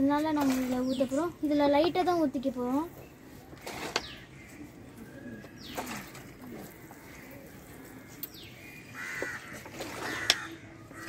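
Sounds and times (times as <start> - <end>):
birds chirping: 0.5 - 11.0.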